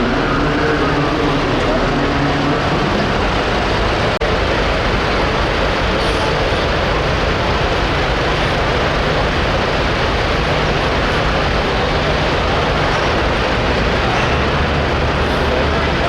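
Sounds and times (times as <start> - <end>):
tractor diesel engine running hard: 0.0 - 16.0.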